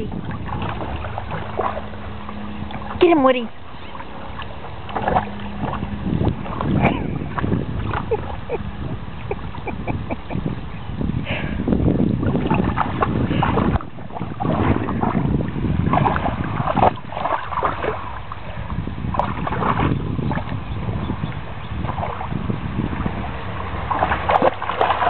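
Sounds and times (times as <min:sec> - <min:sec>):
splashing in shallow water: 0:00.0 - 0:25.0.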